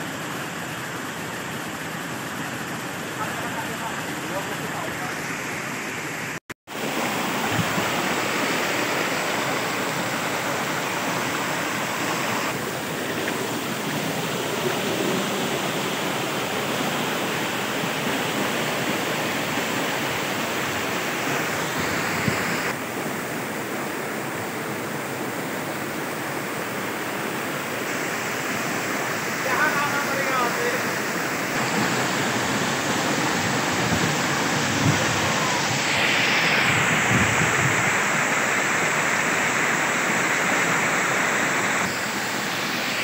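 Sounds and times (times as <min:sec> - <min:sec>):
waterfall splashing over boulders: 0:03.0 - 0:43.0.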